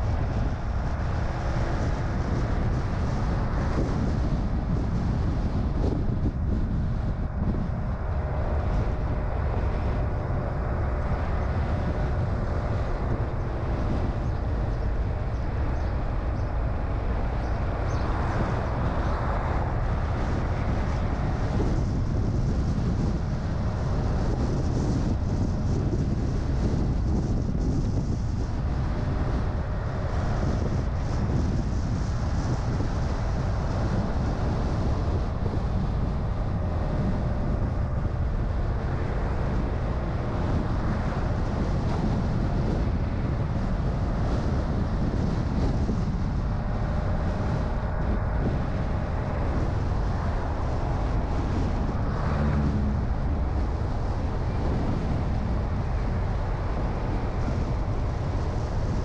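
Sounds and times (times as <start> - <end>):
car engine and tyre rumble: 0.0 - 59.0
wind: 0.0 - 59.0.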